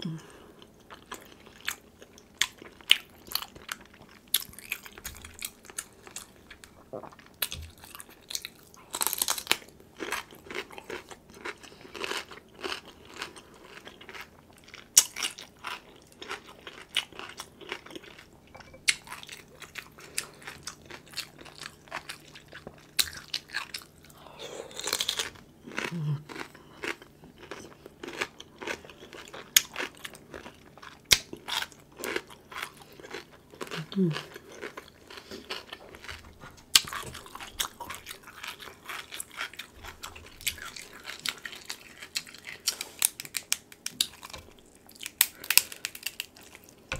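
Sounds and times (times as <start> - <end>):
crunching and chewing cucumber: 0.6 - 46.9.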